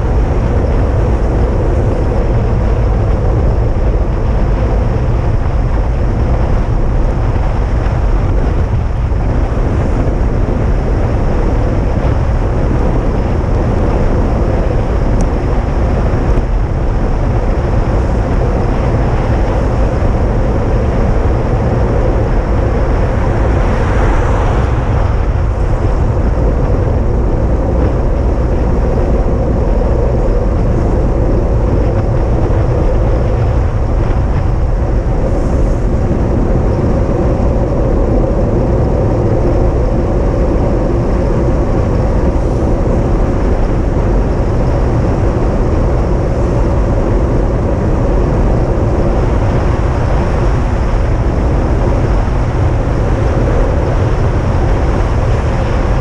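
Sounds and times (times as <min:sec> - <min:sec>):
moving vehicle rumble: 0:00.0 - 0:56.0.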